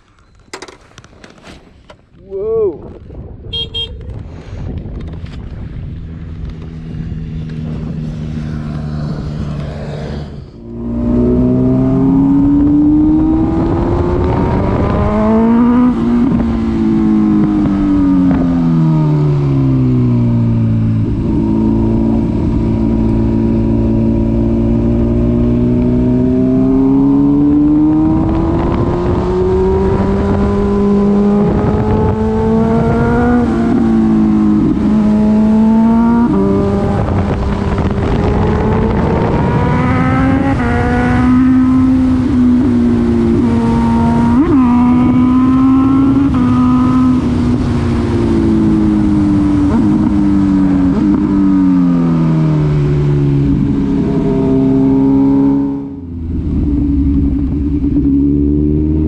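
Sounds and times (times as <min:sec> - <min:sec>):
motorcycle engine revving: 0:05.1 - 0:59.0.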